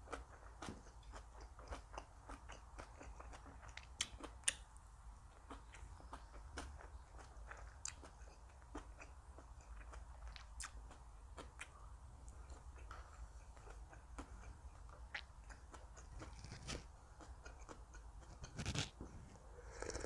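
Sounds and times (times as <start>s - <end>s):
person chewing food: 0.0s - 4.6s, 5.2s - 20.0s.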